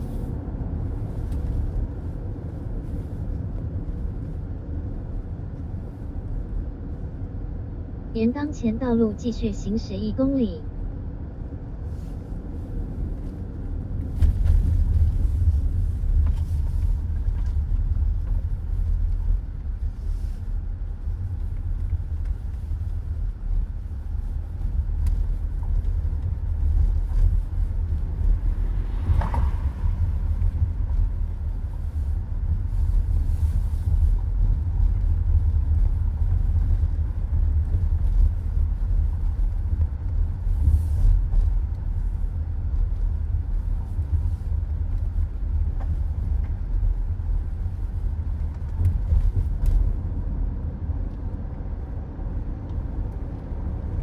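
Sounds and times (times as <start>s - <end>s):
car road noise from cabin: 0.0s - 54.0s.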